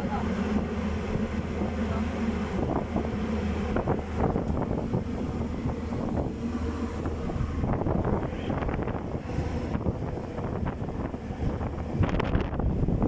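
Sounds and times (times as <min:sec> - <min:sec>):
low hum: 0:00.0 - 0:13.0
wind buffeting microphone: 0:00.0 - 0:13.0.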